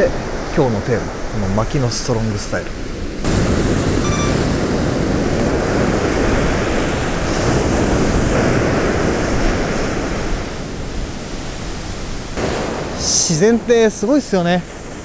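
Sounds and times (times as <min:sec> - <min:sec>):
ocean surf breaking: 0:00.0 - 0:15.0
wind buffeting microphone: 0:02.7 - 0:15.0.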